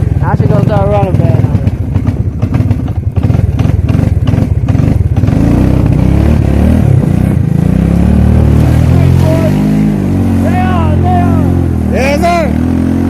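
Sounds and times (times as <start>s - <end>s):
atv engine revving uphill: 0.0s - 13.0s.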